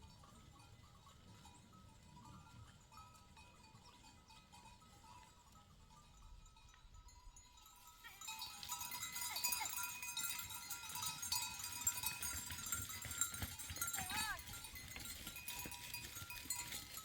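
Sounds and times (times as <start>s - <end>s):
animal bells clinking: 0.0s - 17.0s.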